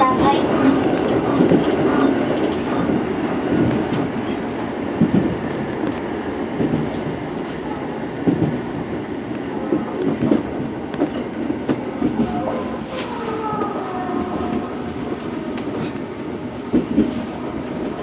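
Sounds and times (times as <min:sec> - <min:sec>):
train wheels on rail: 0:00.0 - 0:18.0.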